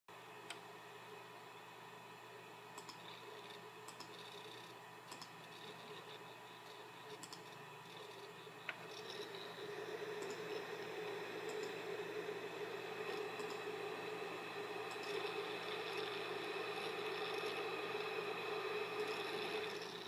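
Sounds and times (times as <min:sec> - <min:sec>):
hard drive humming: 0:00.1 - 0:20.0
hard drive seek clicks: 0:02.7 - 0:20.0.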